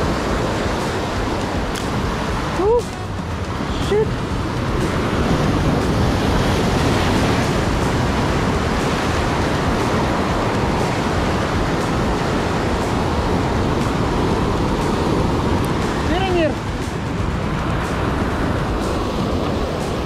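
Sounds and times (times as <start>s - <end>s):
sea surf breaking on rocks: 0.0s - 20.0s
wind buffeting microphone: 0.0s - 20.0s.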